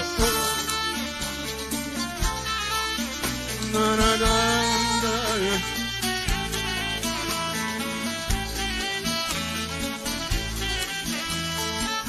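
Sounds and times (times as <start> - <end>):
bass guitar: 0.0 - 12.0
drums: 0.0 - 12.0
electric guitar: 0.0 - 12.0
electronic keyboard: 0.0 - 12.0.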